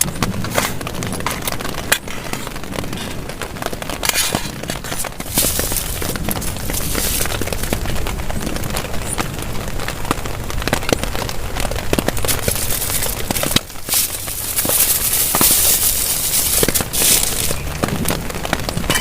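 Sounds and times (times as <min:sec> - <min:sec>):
heavy rain on a tarp: 0:00.0 - 0:19.0.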